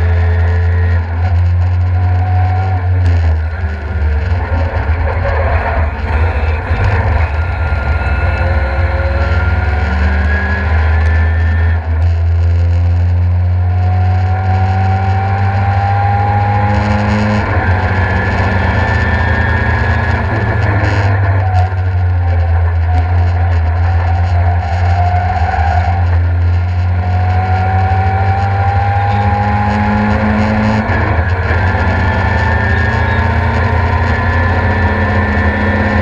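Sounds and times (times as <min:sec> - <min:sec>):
road and wind rumble: 0:00.0 - 0:36.0
rotary engine accelerating hard: 0:00.0 - 0:36.0.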